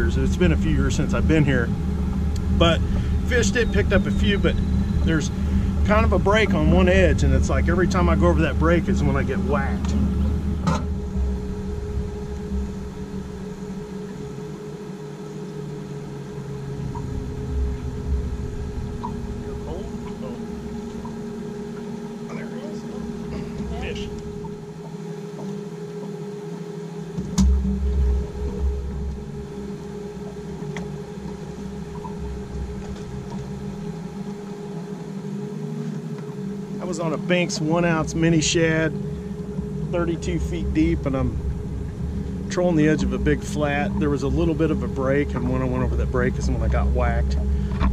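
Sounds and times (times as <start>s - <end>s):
boat motor running: 0.0s - 47.9s.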